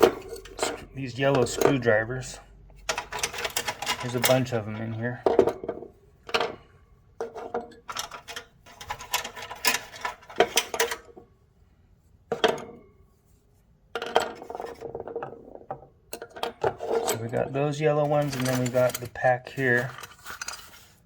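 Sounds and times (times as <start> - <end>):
screwdrivers clattering in toolbox: 0.0 - 11.2, 12.3 - 12.9, 14.0 - 21.0.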